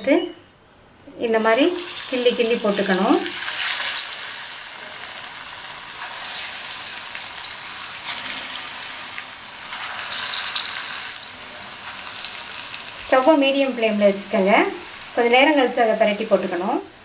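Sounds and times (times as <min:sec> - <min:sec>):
batter deep-frying in hot oil: 0:01.3 - 0:17.0.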